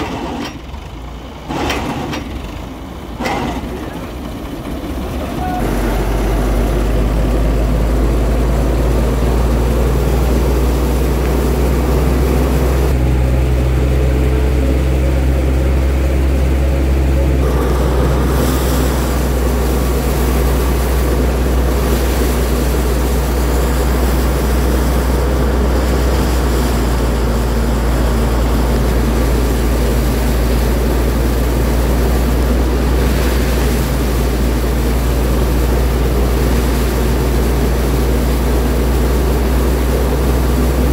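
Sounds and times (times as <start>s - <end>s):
threshing machine droning: 0.0s - 40.9s.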